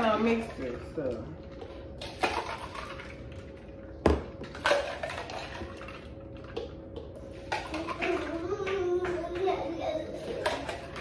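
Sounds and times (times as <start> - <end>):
drink pouring between cups: 0.4 - 9.5.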